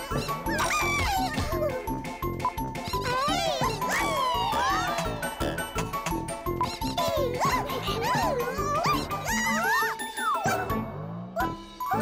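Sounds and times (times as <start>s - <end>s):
cartoon music: 0.0s - 12.0s.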